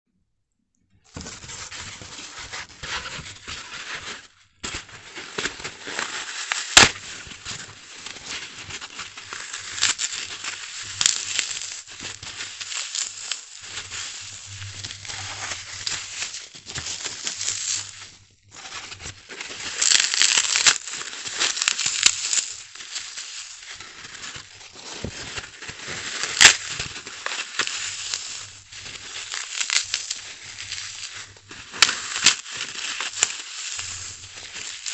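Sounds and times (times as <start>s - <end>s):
floral foam crunching: 1.2s - 34.9s.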